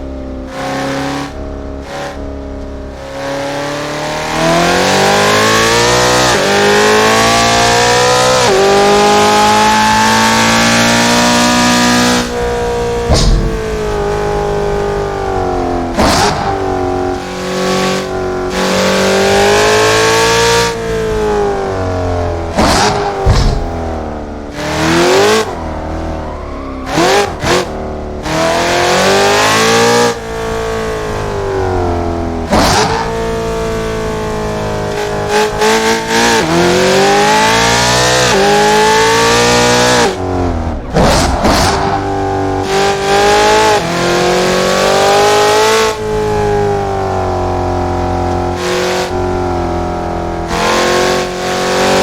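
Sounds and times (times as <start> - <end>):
car engine revving through gears: 0.0 - 52.0.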